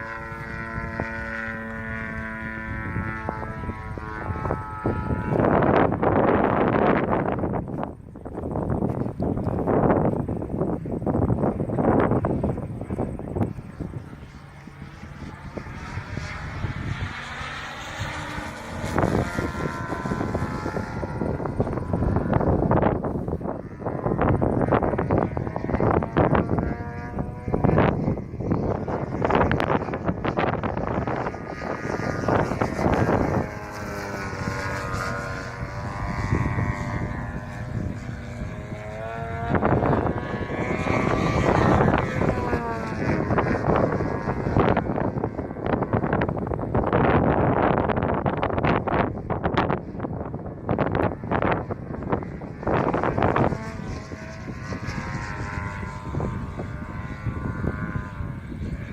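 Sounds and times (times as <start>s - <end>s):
model plane engine droning: 0.0s - 58.9s
wind buffeting microphone: 0.0s - 58.9s.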